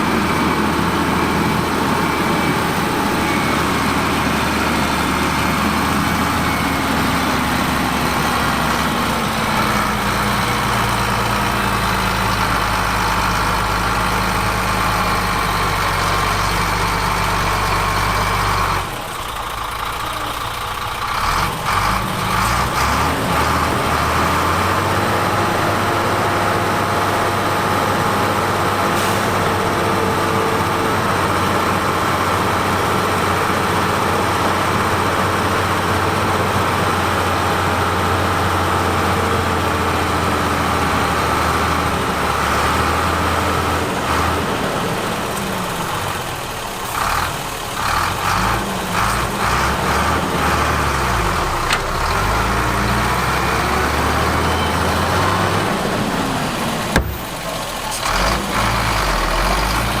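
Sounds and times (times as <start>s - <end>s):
construction machine diesel engine: 0.0s - 60.0s.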